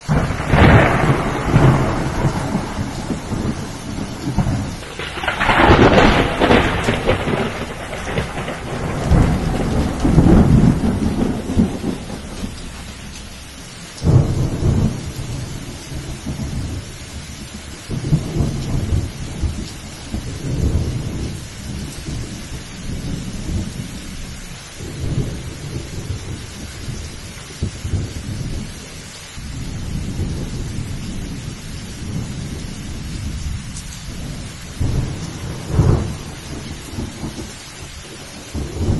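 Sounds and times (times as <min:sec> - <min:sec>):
thunder crack: 0:00.0 - 0:24.2, 0:24.8 - 0:38.9
rain falling: 0:00.0 - 0:38.9
thunder rumbling: 0:00.0 - 0:38.9.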